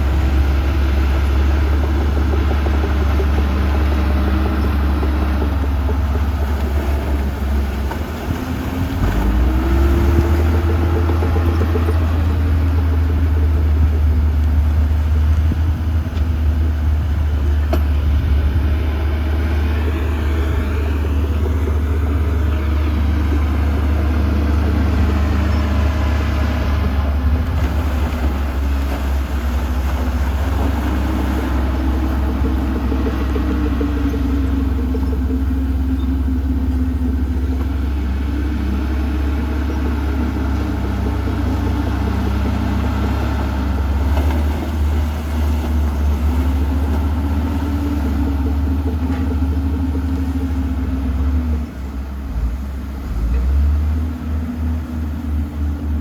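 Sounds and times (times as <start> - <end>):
heavy diesel engine rumbling: 0.0 - 56.0.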